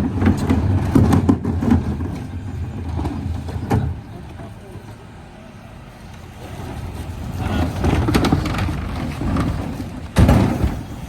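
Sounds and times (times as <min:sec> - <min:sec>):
refuse truck machinery rattling: 0:00.0 - 0:11.0.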